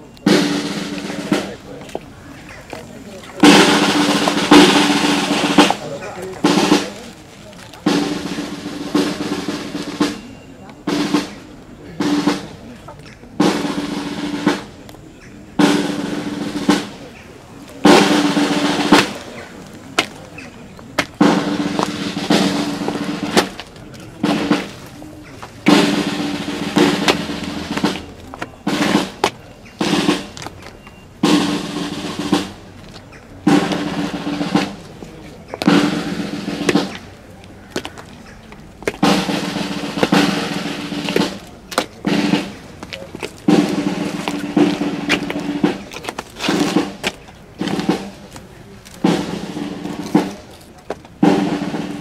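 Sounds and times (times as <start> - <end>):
snare drum rolls: 0.2 - 2.1, 3.1 - 15.0, 15.6 - 38.2, 38.8 - 52.0.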